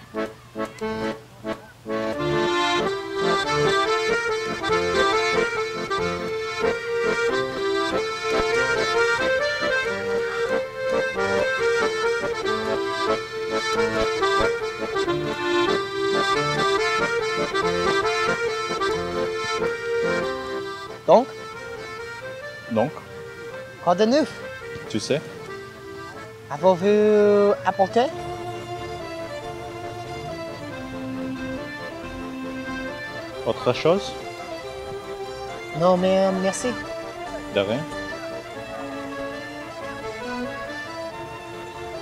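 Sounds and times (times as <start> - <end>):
accordion cafe music: 0.0 - 42.0.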